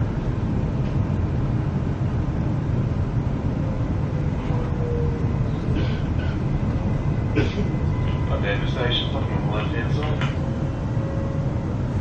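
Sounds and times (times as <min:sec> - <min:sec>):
faint train whine: 0:00.0 - 0:12.0
train rumble inside cabin: 0:00.0 - 0:12.0.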